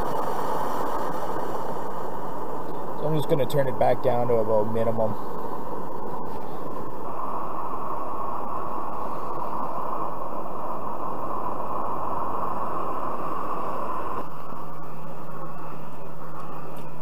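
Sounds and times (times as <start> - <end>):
low hum: 0.0 - 17.0
pressure stove burner hissing: 0.0 - 17.0.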